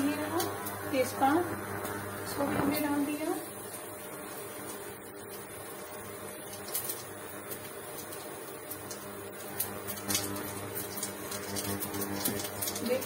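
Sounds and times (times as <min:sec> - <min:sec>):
cooling fan humming: 0:00.0 - 0:13.0
seeds sizzling in hot oil: 0:00.0 - 0:13.0
light crackles: 0:01.7 - 0:13.0.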